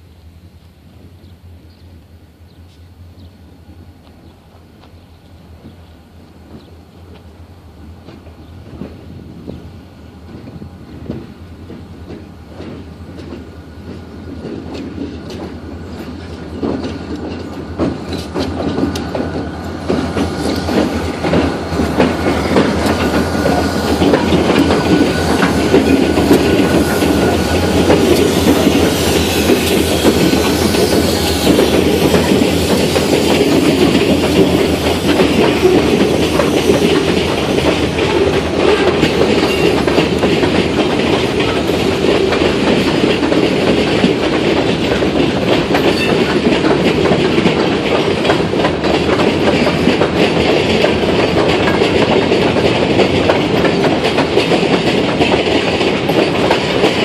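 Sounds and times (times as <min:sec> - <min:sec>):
diesel locomotives passing: 0:00.0 - 0:57.0
wheels clattering over rail joints: 0:10.3 - 0:57.0.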